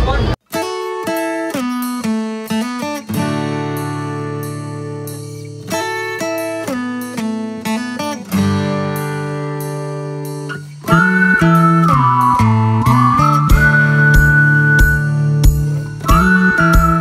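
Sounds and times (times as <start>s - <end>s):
acoustic guitar picking: 0.5s - 17.0s.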